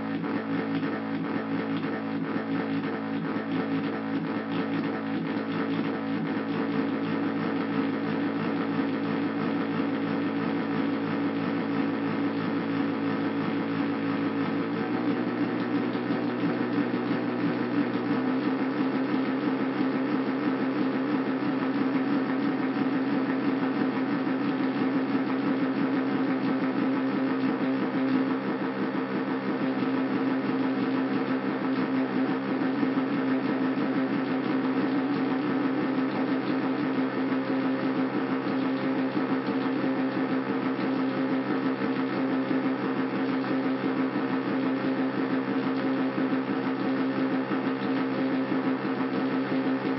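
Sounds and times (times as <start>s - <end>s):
synthesizer drone: 0.0s - 49.9s.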